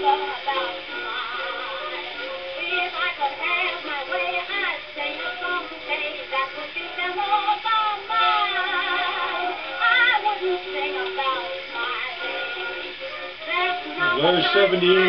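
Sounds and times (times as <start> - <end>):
thin music with singing from record: 0.0 - 15.0.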